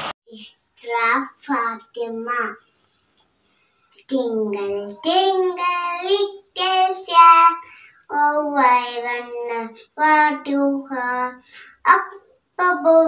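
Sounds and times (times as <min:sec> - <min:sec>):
girl singing unaccompanied: 0:00.3 - 0:02.7, 0:04.0 - 0:13.0.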